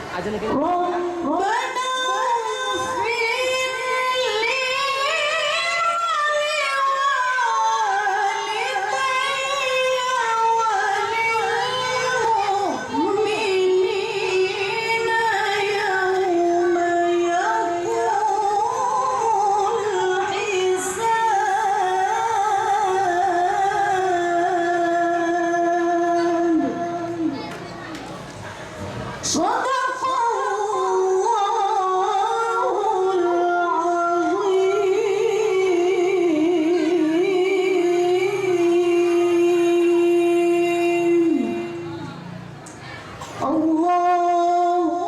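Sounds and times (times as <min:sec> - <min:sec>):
woman reciting melodically: 0:00.5 - 0:27.9, 0:29.2 - 0:42.2, 0:42.8 - 0:45.0.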